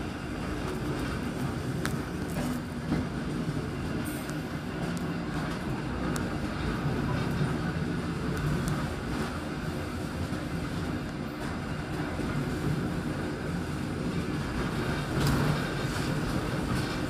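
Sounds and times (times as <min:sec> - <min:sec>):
train rumbling: 0:00.0 - 0:17.0
wheels clicking on rails: 0:00.0 - 0:17.0.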